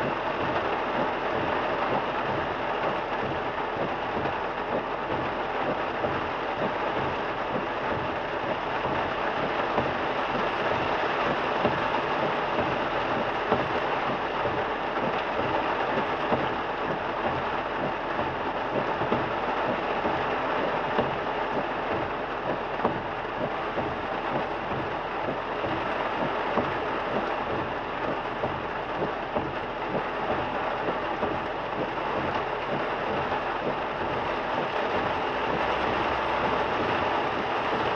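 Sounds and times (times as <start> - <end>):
heavy rain on a moving car: 0.0 - 37.9
raindrops ticking: 0.0 - 37.9
tyres on wet road: 0.0 - 37.9.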